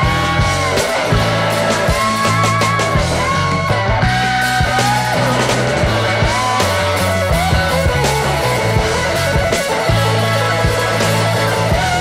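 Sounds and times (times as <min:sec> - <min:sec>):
drums: 0:00.0 - 0:12.0
electric guitar: 0:00.0 - 0:12.0.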